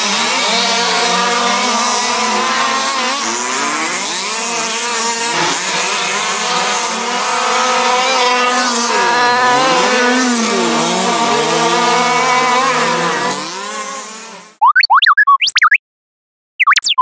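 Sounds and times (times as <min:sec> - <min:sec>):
rc car engines buzzing: 0:00.0 - 0:14.6.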